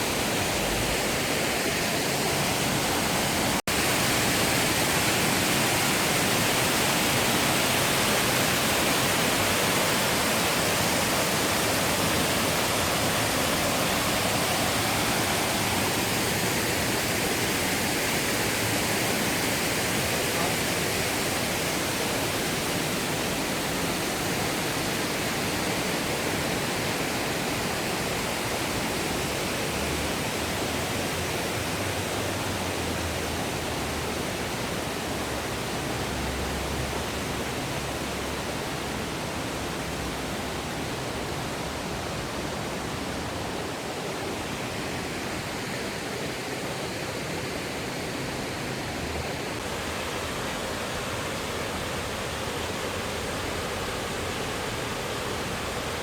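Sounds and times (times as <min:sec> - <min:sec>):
waterfall over rocks: 0:00.0 - 0:56.0.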